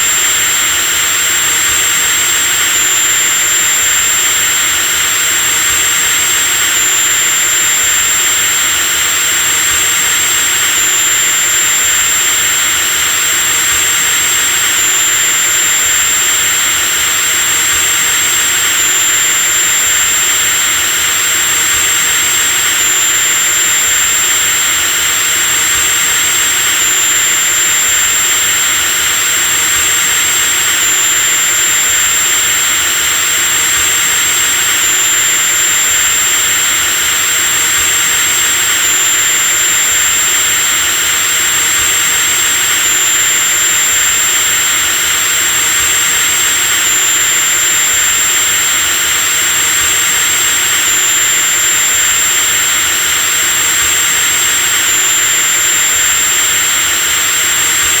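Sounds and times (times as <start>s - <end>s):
electric drill whining: 0.0s - 58.0s.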